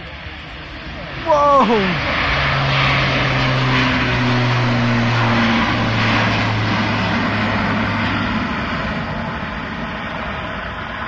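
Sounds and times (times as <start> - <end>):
turboprop aircraft flying overhead: 0.0 - 11.0.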